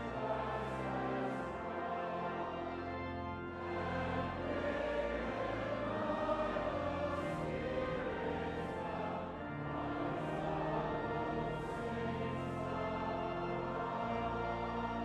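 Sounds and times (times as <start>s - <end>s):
choir singing a hymn: 0.0s - 15.0s.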